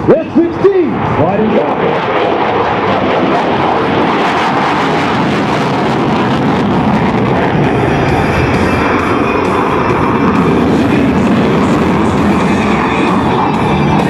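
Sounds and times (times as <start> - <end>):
jet engine at takeoff: 0.0 - 14.0.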